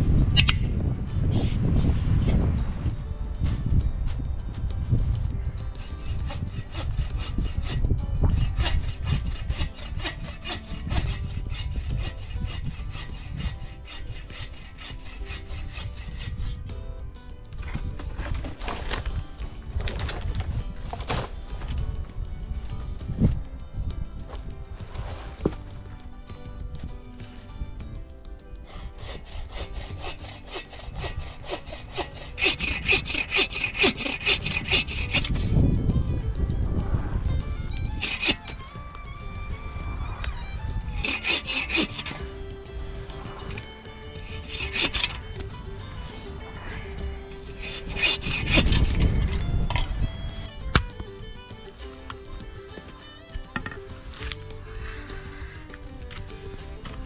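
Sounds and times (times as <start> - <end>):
hand saw cutting branch: 0.0 - 22.3, 24.3 - 36.0, 37.1 - 57.0.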